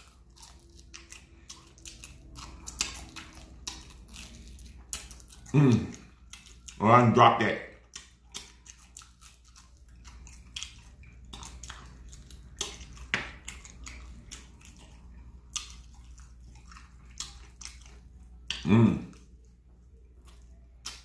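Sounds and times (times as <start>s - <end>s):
lip smacking: 0.0s - 6.8s, 7.8s - 21.0s
man chewing wetly: 0.0s - 21.0s.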